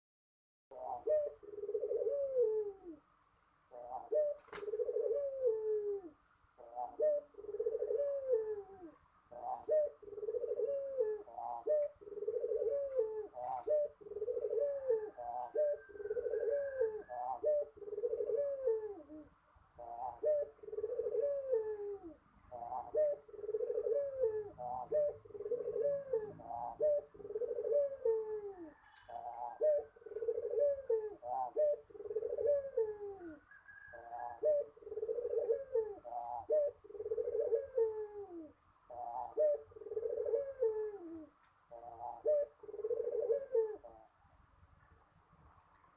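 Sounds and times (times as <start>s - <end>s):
dove cooing: 0.7s - 3.1s, 3.7s - 44.3s.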